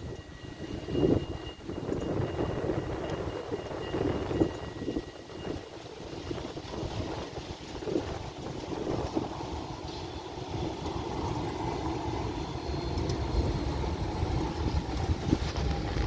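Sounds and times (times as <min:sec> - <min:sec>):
tram rumbling by: 0:00.0 - 0:16.0.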